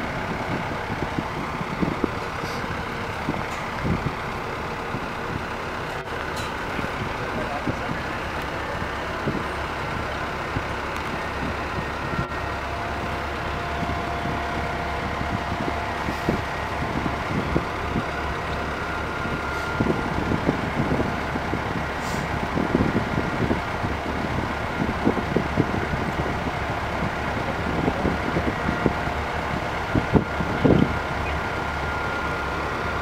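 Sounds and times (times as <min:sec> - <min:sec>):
low machinery rumble: 0:00.0 - 0:33.0.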